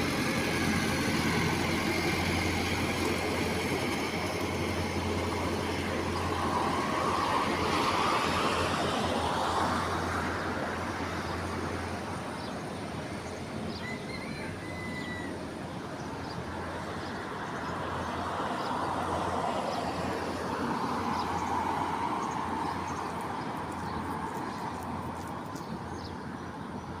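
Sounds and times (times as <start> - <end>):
road traffic: 0.0 - 27.0
vehicles passing: 0.0 - 27.0.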